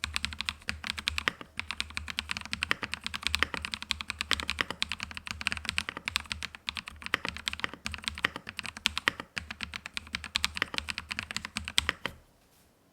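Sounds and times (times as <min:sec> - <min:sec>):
mechanical keyboard typing: 0:00.0 - 0:12.2.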